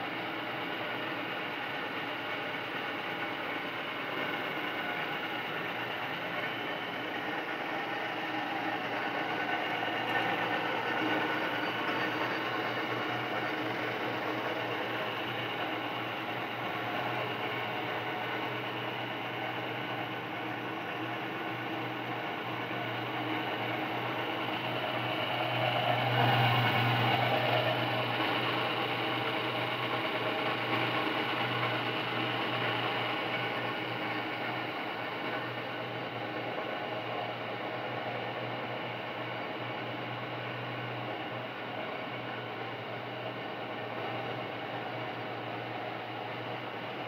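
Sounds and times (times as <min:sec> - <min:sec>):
pelletizer machine running: 0:00.0 - 0:47.0.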